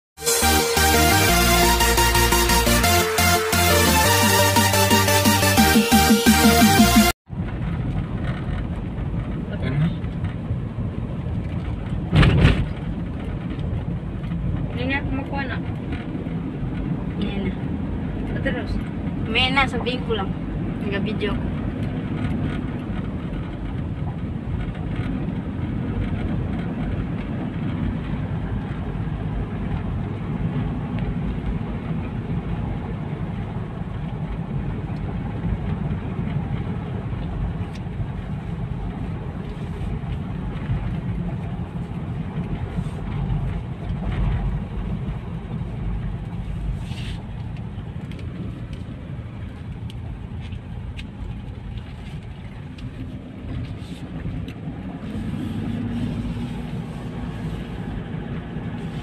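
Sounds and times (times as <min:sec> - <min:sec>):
car engine and road noise: 0:00.2 - 0:59.0.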